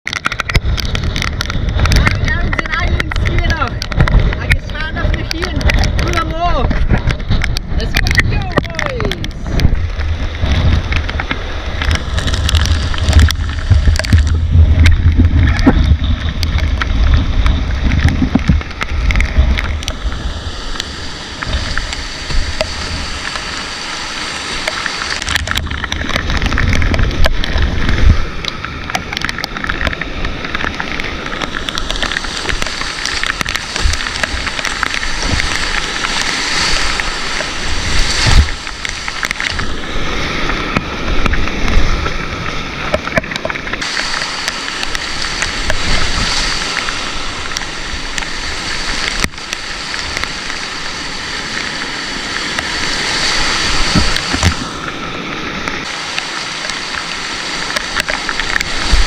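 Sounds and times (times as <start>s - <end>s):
knocks and splashes: 0.0s - 59.0s
river rushing around canoe: 0.1s - 59.0s
heavy low rumble: 0.3s - 50.9s.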